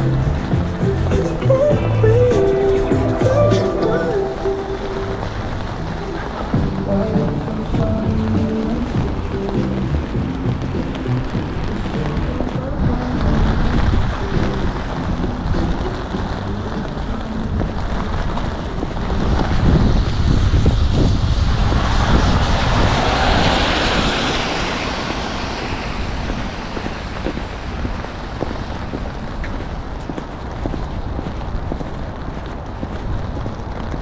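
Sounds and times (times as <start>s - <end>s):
tyre hiss on wet road: 0.0s - 34.0s
wind rumble on microphone: 0.0s - 34.0s.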